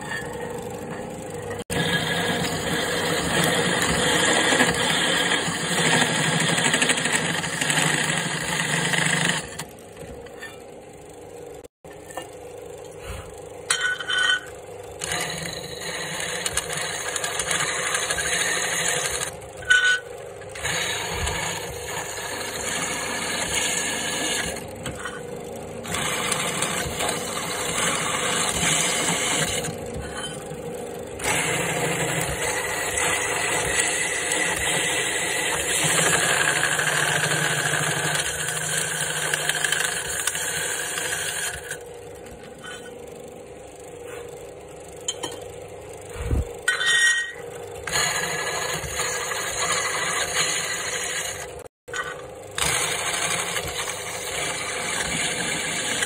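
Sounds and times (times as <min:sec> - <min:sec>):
drill press cutting metal: 0:00.0 - 0:10.6, 0:13.0 - 0:41.9, 0:46.6 - 0:56.0.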